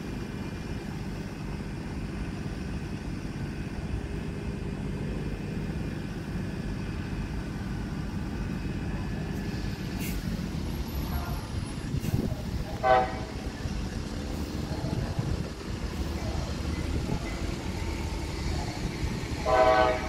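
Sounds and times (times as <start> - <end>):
locomotive engine droning: 0.0 - 20.0.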